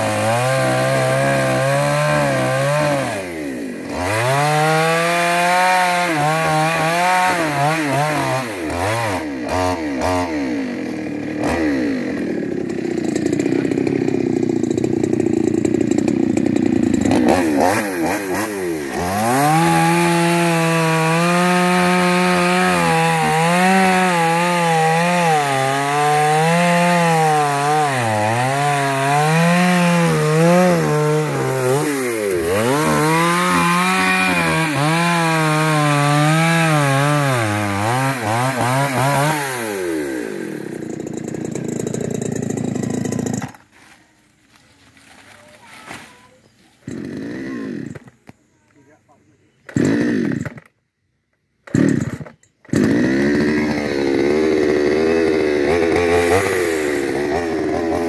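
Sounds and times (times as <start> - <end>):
chainsaw cutting wood: 0.0 - 49.0, 49.6 - 50.8, 51.6 - 58.0.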